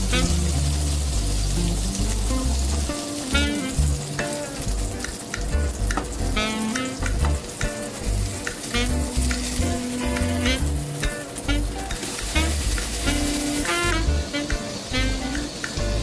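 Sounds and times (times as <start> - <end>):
patties sizzling in frying pan: 0.0 - 16.0.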